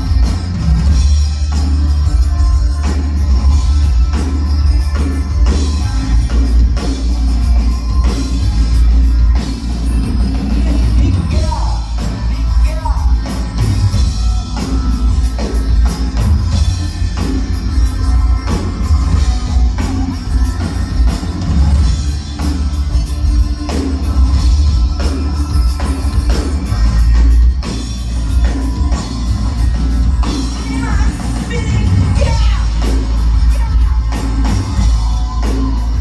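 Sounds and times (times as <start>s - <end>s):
drum kit beat: 0.0s - 36.0s
heavy bass: 0.0s - 36.0s
rock band instrumental: 0.0s - 36.0s.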